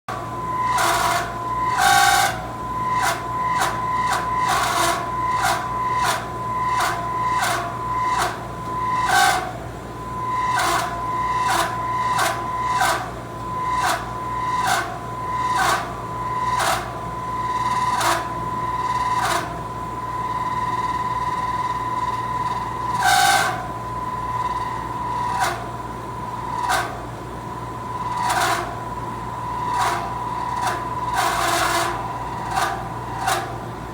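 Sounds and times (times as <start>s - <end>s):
compressor hum and whine: 0.1s - 33.9s.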